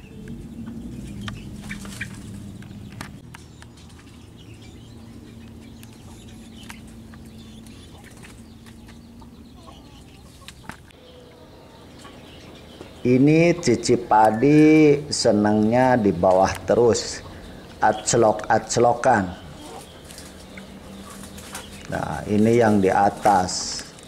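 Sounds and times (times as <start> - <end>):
birds chirping and clucking: 0.0 - 24.0.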